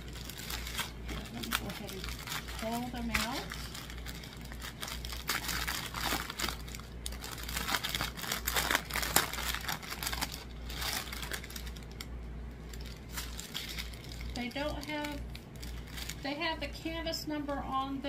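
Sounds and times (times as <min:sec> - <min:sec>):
plastic packaging crinkling: 0:00.0 - 0:16.7.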